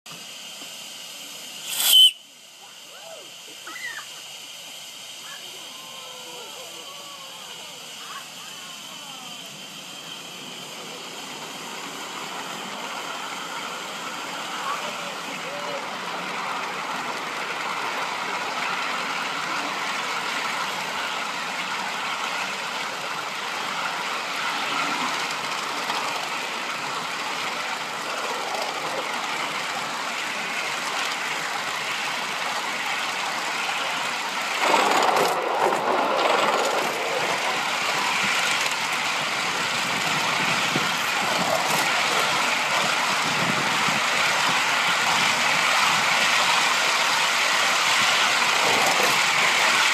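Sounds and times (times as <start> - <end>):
model steam locomotive running: 0.1 - 49.9
rush of noise: 0.4 - 49.9.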